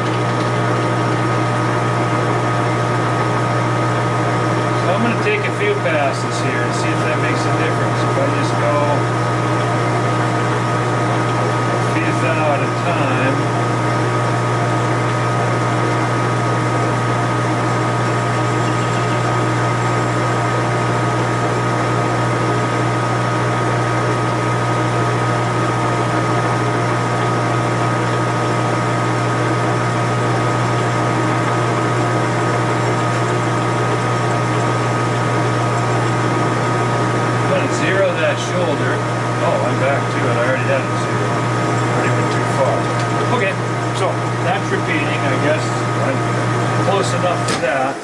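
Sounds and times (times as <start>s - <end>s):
lathe turning brass: 0.0s - 47.5s
lathe motor hum and whine: 0.0s - 48.0s.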